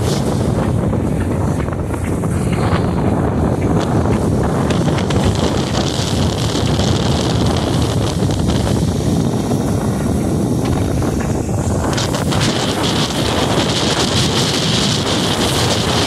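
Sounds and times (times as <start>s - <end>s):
strong wind buffeting microphone: 0.0s - 16.0s
water splashing along hull: 0.0s - 16.0s.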